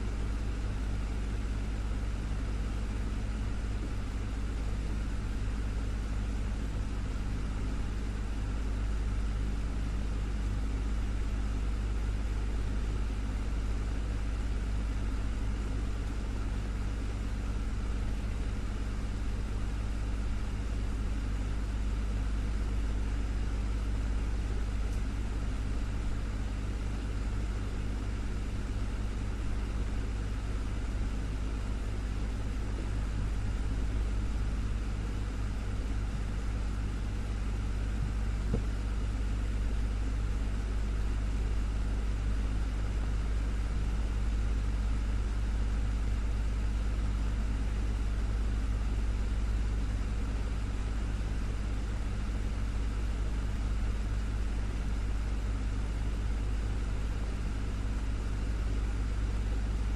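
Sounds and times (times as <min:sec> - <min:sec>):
desktop fan running: 0:00.0 - 0:59.9.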